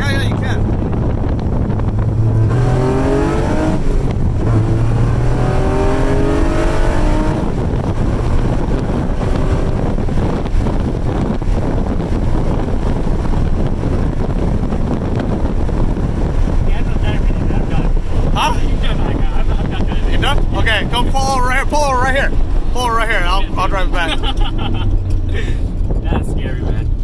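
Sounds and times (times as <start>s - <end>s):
gear change: 0.0s - 27.0s
road noise: 0.0s - 27.0s
car engine revving hard: 0.4s - 26.7s.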